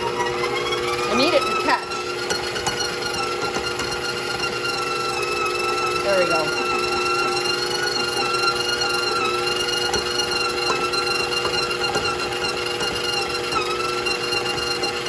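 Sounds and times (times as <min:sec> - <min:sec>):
stand mixer motor whining: 0:00.0 - 0:15.0.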